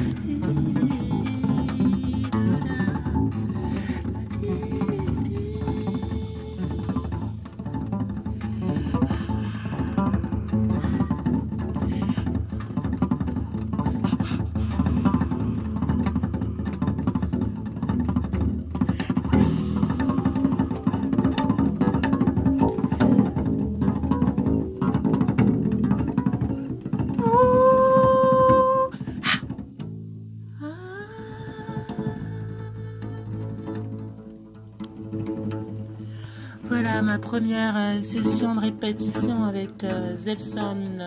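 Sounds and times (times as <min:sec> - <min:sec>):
bass guitar plucked: 0:00.0 - 0:41.0.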